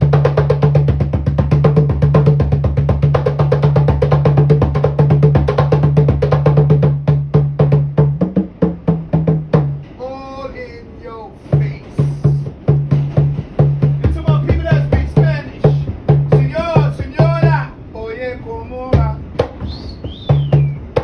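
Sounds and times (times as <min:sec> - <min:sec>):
drum strikes: 0:00.0 - 0:10.1, 0:11.5 - 0:17.7, 0:19.0 - 0:21.0.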